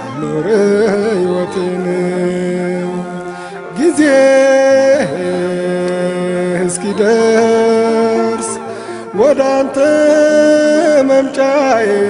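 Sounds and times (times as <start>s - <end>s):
person singing a devotional hymn: 0.0s - 12.0s.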